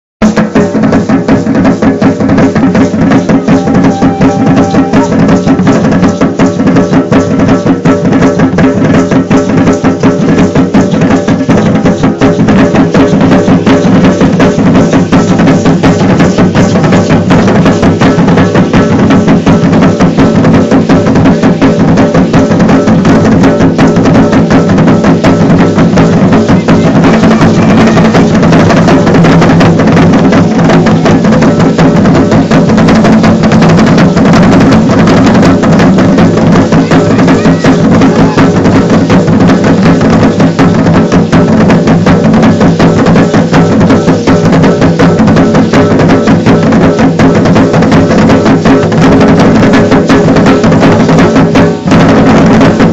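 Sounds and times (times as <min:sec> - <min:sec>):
loud steady drumming: 0:00.2 - 0:52.9.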